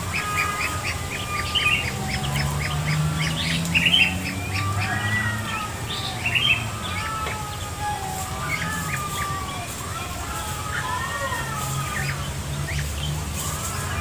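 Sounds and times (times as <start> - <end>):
chicks peeping: 0.0 - 14.0
longer gliding calls: 0.0 - 14.0.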